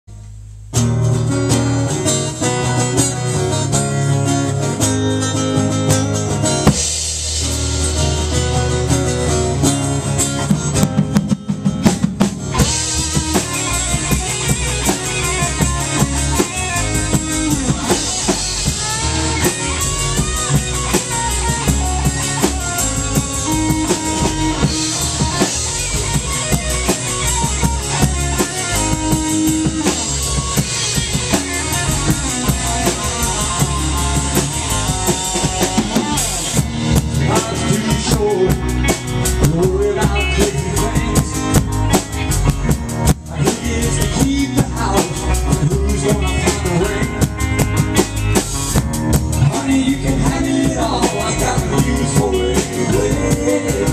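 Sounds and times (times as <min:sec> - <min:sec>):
bass guitar: 0:00.0 - 0:53.9
drum kit: 0:00.0 - 0:53.9
electric guitars: 0:00.1 - 0:53.9.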